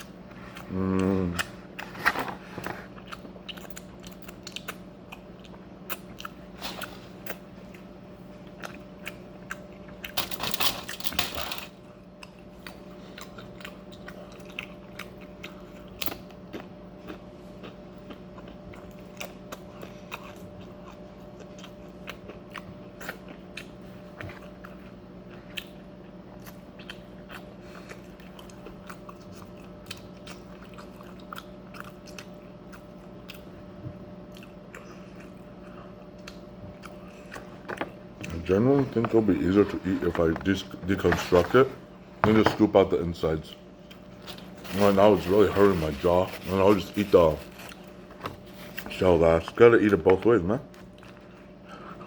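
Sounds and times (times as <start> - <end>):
person chewing and crunching food: 0.0 - 52.0
steady low hum: 0.0 - 52.0.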